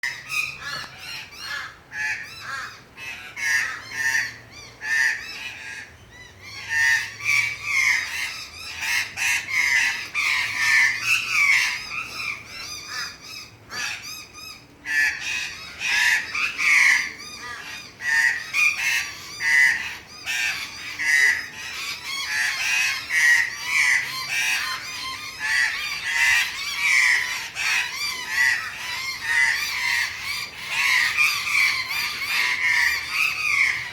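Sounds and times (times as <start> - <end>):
birds alarm calls: 0.0 - 33.9.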